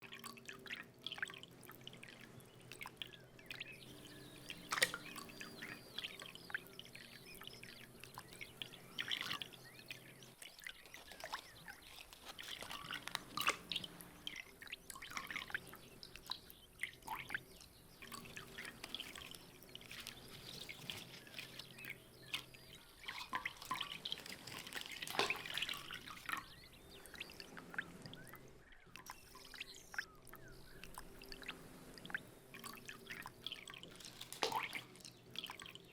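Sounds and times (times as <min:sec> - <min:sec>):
water splashes and drips: 0:00.0 - 0:35.9
faint low hum: 0:00.2 - 0:35.9.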